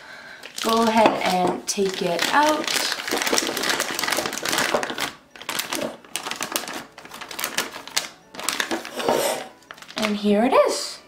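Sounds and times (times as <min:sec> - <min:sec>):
plastic bag of slime crinkling: 0:00.4 - 0:10.3.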